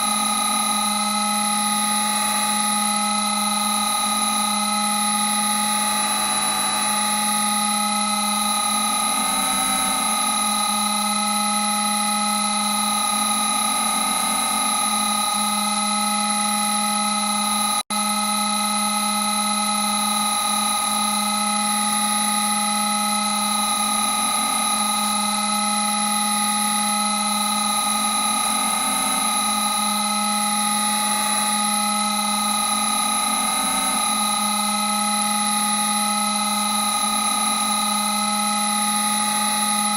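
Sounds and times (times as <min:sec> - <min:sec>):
electronic drone: 0:00.0 - 0:39.9.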